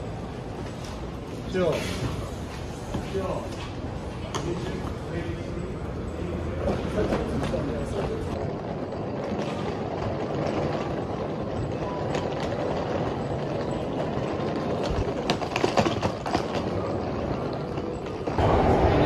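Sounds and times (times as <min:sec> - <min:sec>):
metro station rumbling ambience: 0:00.0 - 0:19.0.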